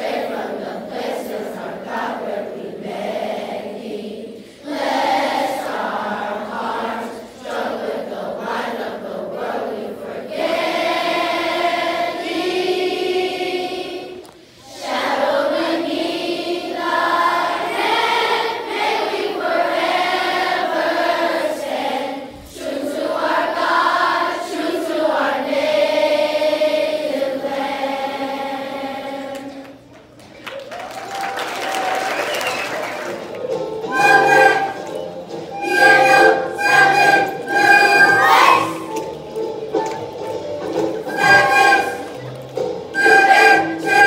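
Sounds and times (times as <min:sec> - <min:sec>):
children singing together: 0:00.0 - 0:29.6, 0:33.9 - 0:39.1, 0:41.0 - 0:42.2, 0:43.0 - 0:44.0.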